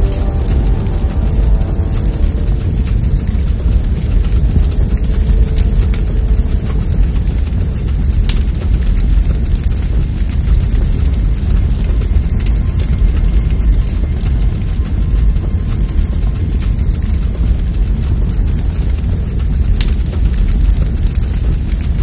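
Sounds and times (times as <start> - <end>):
faint crackles: 0.0 - 22.0
low rumbling noise: 0.0 - 22.0.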